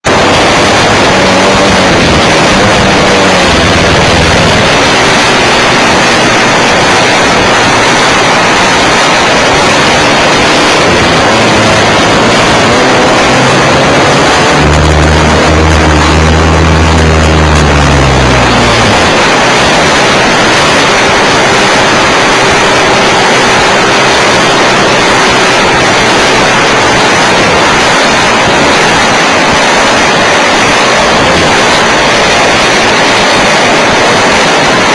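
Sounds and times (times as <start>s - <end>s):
low pitched drone: 0.0s - 34.9s
model plane engine and propeller: 0.0s - 34.9s
rushing wind noise: 0.0s - 34.9s.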